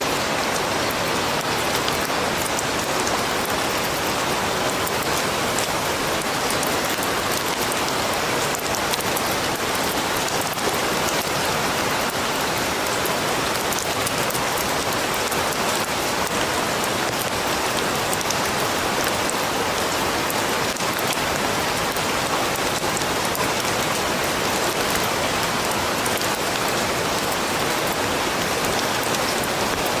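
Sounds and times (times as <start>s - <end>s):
rain pattering in forest: 0.0s - 30.0s.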